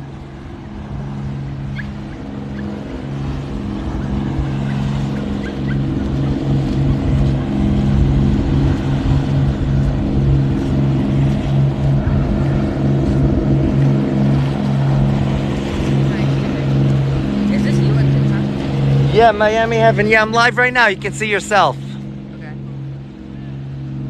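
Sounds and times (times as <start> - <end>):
motorboat engine throbbing: 0.0 - 24.0.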